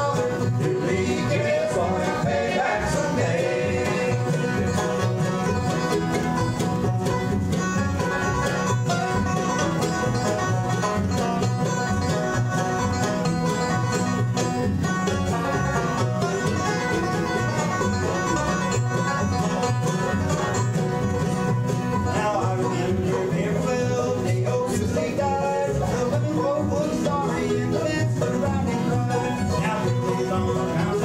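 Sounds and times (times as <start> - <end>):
acoustic guitars: 0.0 - 31.0
mandolin: 0.0 - 31.0
picked banjo: 0.0 - 31.0
upright bass: 0.0 - 31.0.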